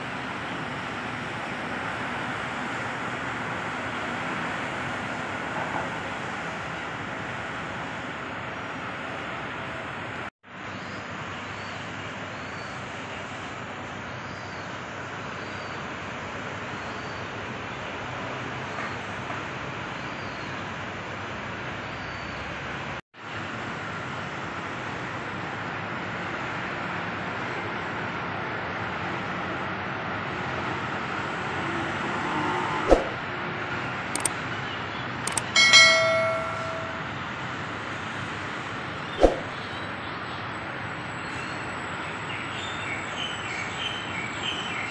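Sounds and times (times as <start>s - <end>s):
distant road traffic hum: 0.0s - 44.9s.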